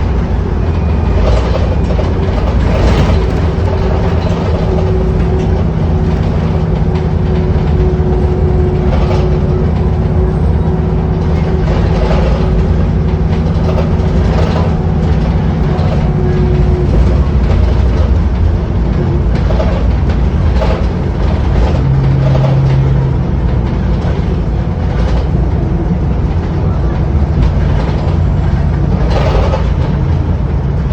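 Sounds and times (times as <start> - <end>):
bus engine droning: 0.0 - 30.9
steady whine: 0.0 - 30.9.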